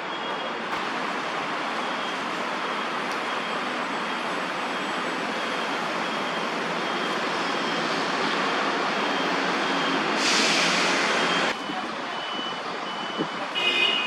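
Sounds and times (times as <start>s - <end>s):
city traffic hiss and rumble: 0.0s - 14.0s.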